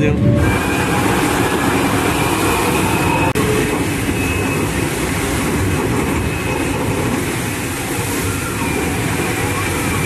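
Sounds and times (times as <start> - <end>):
boat rumble: 0.0 - 10.0
rush of water and spray: 0.6 - 10.0.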